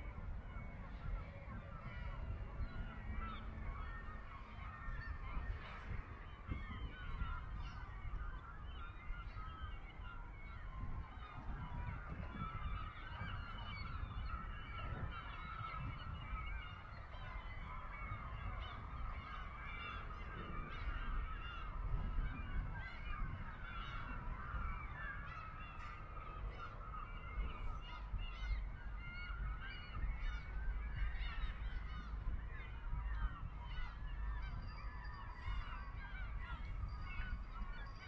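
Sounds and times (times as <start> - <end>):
flock of birds honking: 0.0 - 38.0.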